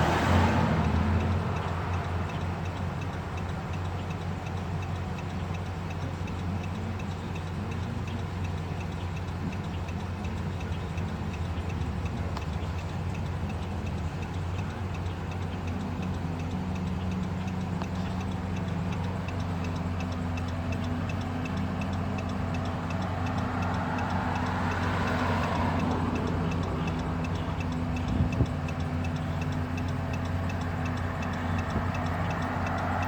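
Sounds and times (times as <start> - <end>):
car engine idling: 0.0 - 33.0
fast even ticking: 0.0 - 33.0
passing vehicle: 0.0 - 33.0.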